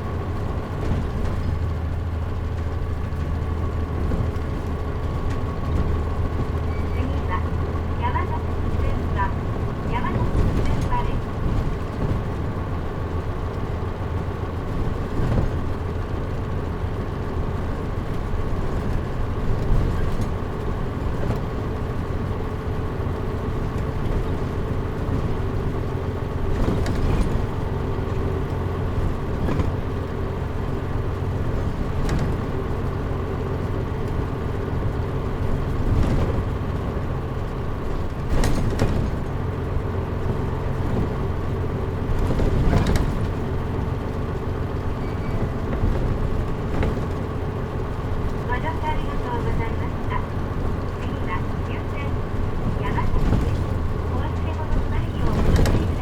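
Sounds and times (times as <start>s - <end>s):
bus diesel engine running: 0.0s - 56.0s
knocks and rattles: 0.1s - 48.6s, 49.2s - 56.0s.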